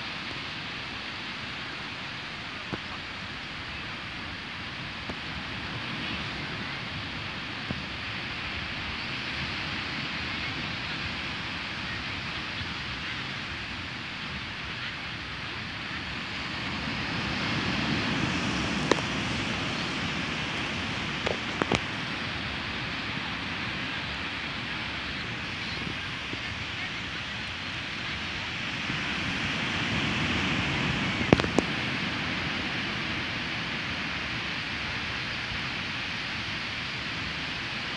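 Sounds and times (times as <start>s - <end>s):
waves washing up a beach: 0.0s - 37.9s.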